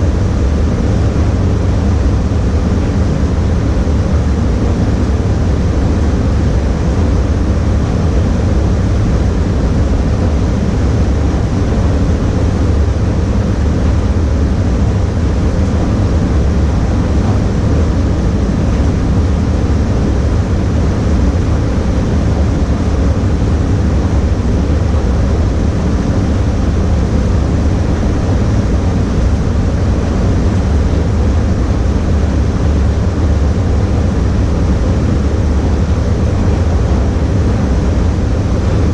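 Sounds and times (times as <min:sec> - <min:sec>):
loud rush of moving air: 0:00.0 - 0:38.9.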